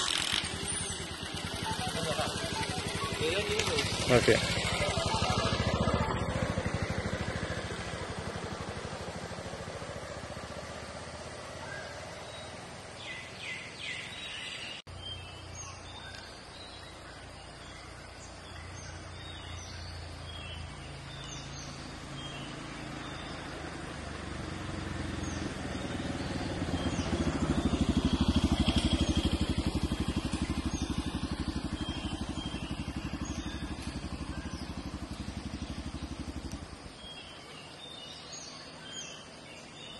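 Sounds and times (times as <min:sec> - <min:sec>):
small birds chirping: 0:00.0 - 0:39.9
vehicle engine running: 0:00.0 - 0:39.9.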